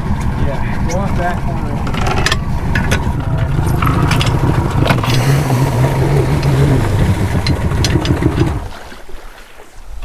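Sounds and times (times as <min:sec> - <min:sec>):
boat motor running: 0:00.0 - 0:09.0.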